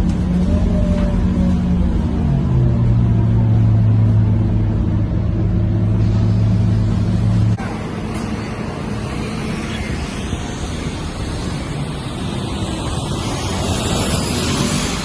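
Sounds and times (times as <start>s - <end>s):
bus diesel engine droning: 0.0s - 15.0s
wind and road noise: 0.0s - 15.0s.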